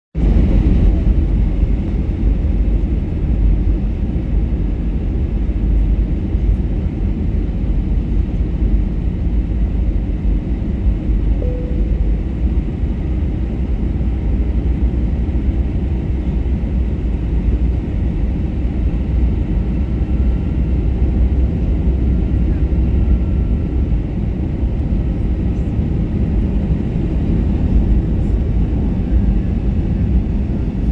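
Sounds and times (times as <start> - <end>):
airplane cabin rumble: 0.2 - 30.9.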